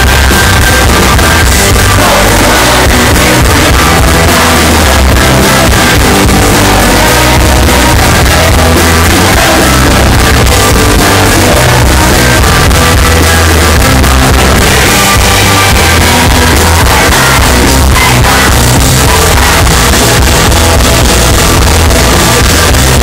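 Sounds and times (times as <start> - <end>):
person singing: 0.0 - 20.8
live rock band playing: 0.0 - 23.0.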